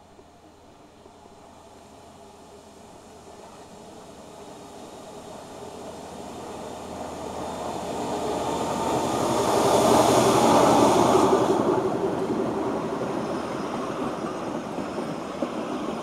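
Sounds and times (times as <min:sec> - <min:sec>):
train approaching and passing: 0:00.0 - 0:16.0.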